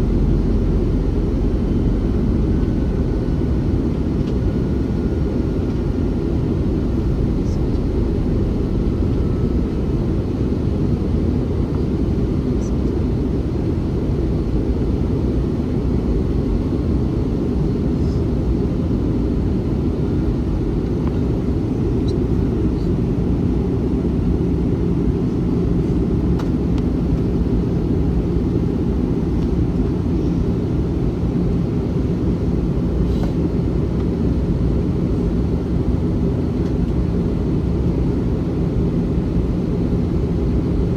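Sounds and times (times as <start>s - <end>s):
airplane cabin roar: 0.0s - 40.9s
low steady hum: 0.0s - 40.9s.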